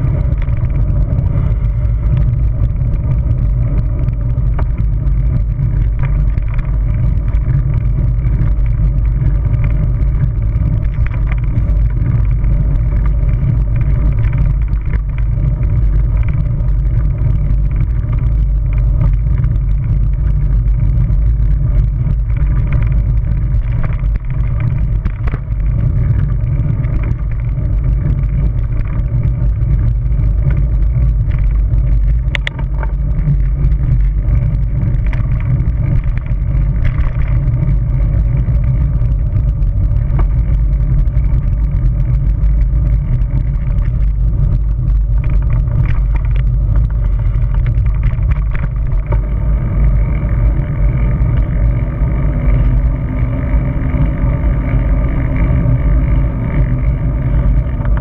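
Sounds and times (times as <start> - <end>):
bicycle tyre and road noise: 0.0 - 58.0
wind buffeting microphone: 0.0 - 58.0.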